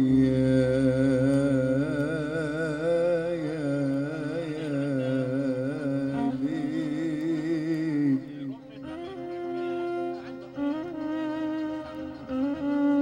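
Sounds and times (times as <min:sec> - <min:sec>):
man singing wordless melody: 0:00.0 - 0:13.0.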